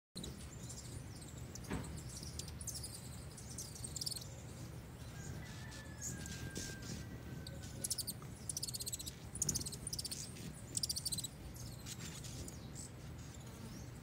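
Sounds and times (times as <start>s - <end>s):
hummingbirds chipping and twittering: 0.2s - 14.0s
outdoor background noise: 0.2s - 14.0s.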